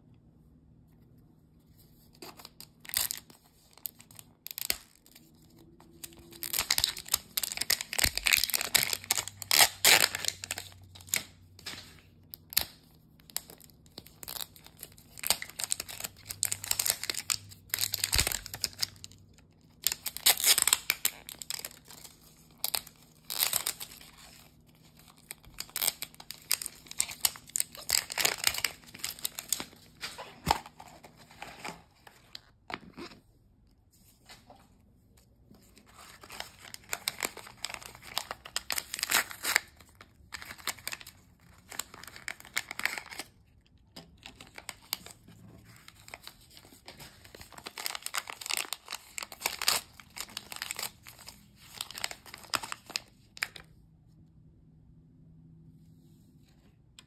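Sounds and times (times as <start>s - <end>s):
wrapper ripping and crinkling: 2.3s - 32.1s, 35.8s - 43.4s, 44.2s - 53.6s.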